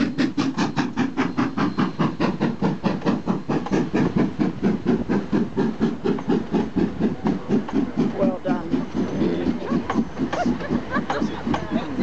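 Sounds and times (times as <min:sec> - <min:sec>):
passenger train passing: 0:00.0 - 0:12.0.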